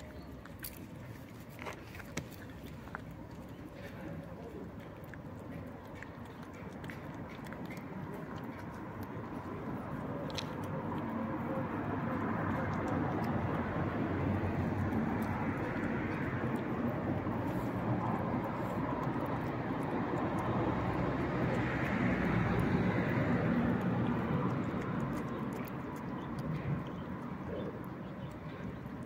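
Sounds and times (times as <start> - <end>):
cat chewing and licking food: 0.0 - 29.0
distant engine rumble: 0.0 - 29.0.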